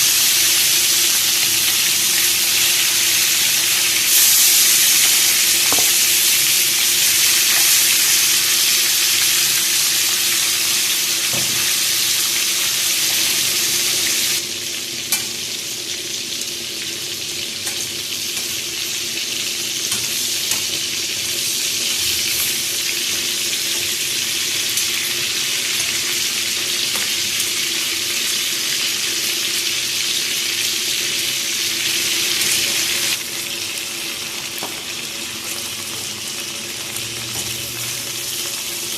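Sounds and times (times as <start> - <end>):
chicken wings sizzling in pan: 0.0 - 38.9.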